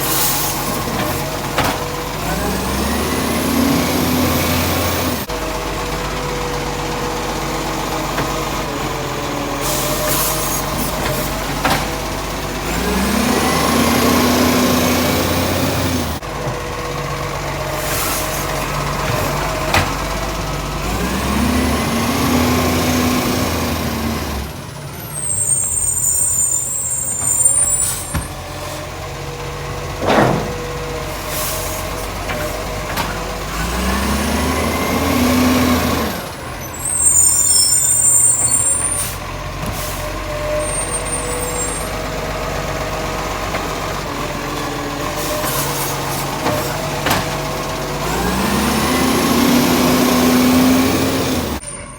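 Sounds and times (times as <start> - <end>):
garbage truck engine revving: 0.0 - 51.9.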